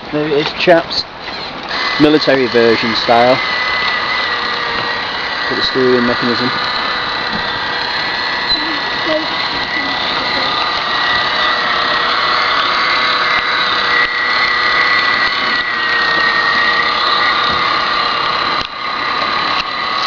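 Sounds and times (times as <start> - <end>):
small electric motor whining: 1.2 - 20.0.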